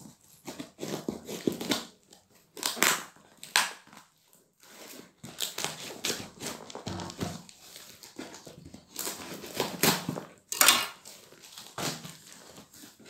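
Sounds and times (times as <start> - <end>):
cardboard crinkling and tearing: 0.1 - 13.0
cardboard ripping: 0.2 - 4.0, 4.6 - 13.0.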